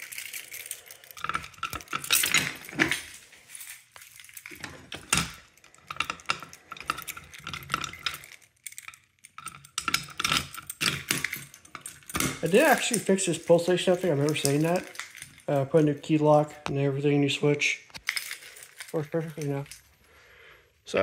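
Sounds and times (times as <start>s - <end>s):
keys jangling: 0.0s - 16.6s, 18.0s - 20.2s.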